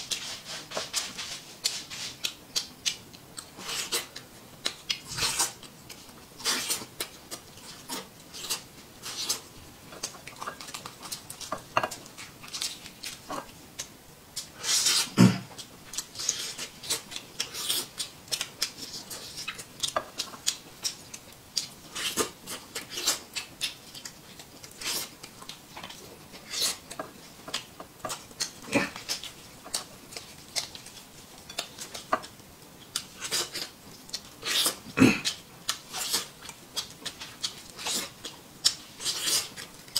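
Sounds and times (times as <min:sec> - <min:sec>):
man chewing with lip smacks: 0:00.1 - 0:39.9.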